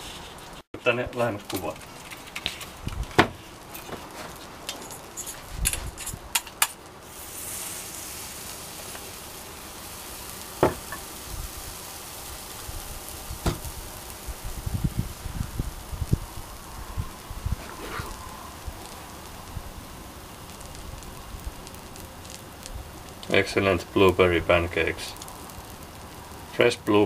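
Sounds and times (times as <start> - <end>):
batter sizzling in oil: 1.1 - 27.0.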